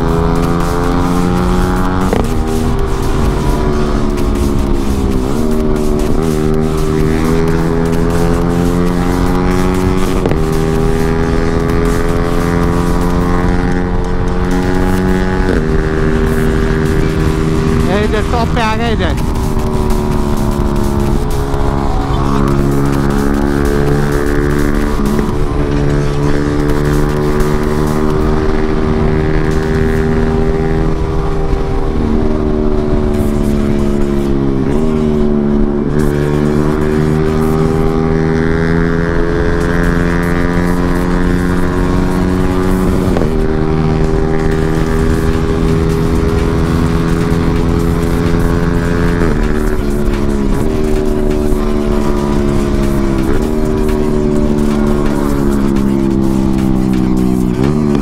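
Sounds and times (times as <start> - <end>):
motorcycle engine running: 0.0 - 58.0
wind rush on microphone: 0.0 - 58.0.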